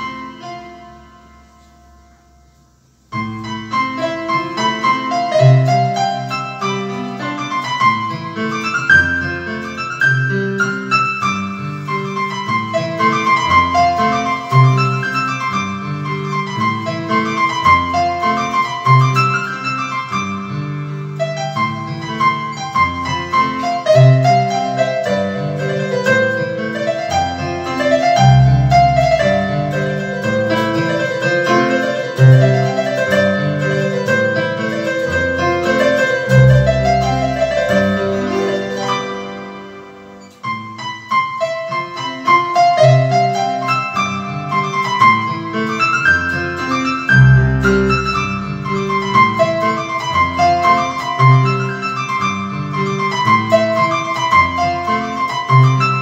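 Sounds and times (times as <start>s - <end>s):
electronic keyboard melody: 0.0s - 56.0s.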